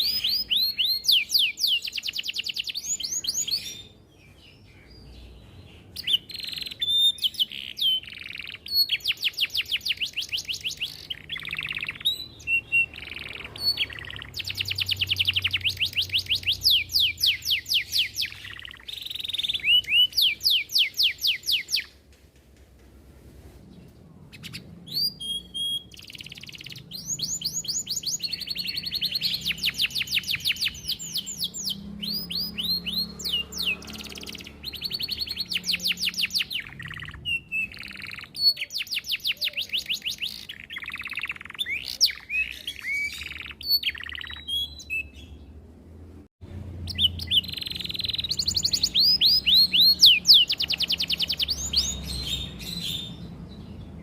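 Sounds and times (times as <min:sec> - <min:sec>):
canary singing: 0:00.0 - 0:22.0, 0:24.2 - 0:54.0.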